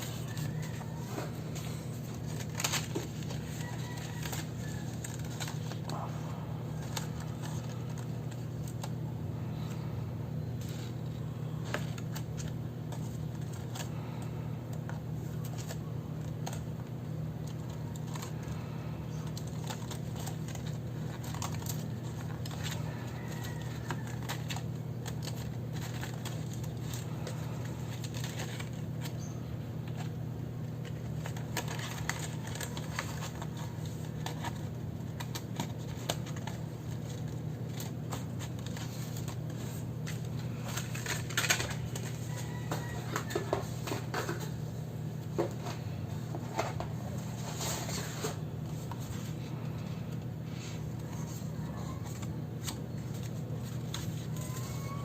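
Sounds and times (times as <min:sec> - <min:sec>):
paper rustling: 0:00.0 - 0:09.9, 0:10.5 - 0:44.6, 0:45.2 - 0:55.0
steady low hum: 0:00.0 - 0:55.0.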